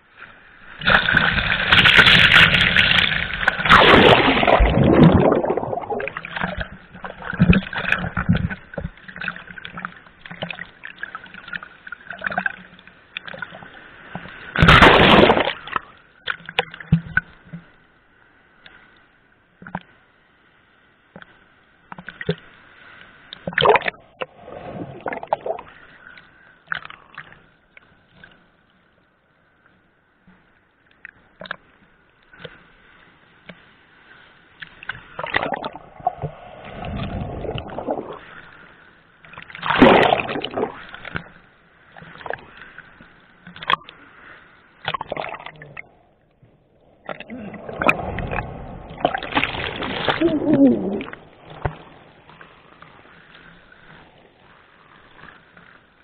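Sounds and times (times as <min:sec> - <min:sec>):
water splashing and sloshing: 0:00.0 - 0:56.0.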